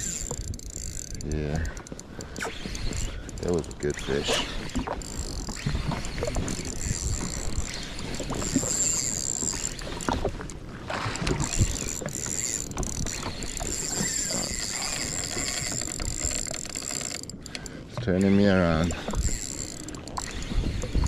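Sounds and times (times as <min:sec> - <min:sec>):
wind on the microphone: 0:00.0 - 0:16.2, 0:17.9 - 0:21.0
water lapping against a hull: 0:00.0 - 0:21.0.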